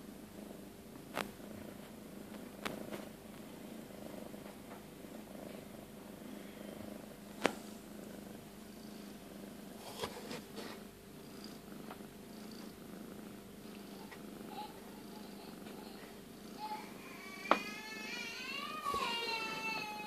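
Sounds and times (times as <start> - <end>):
cat purring: 0.0 - 18.2.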